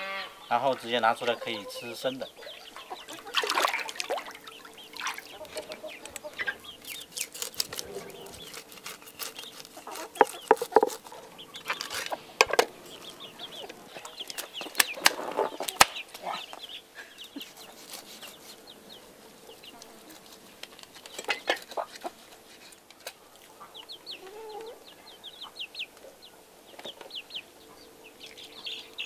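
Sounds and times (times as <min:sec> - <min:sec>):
chickens clucking: 0:00.0 - 0:29.0
chicks peeping: 0:00.0 - 0:29.0.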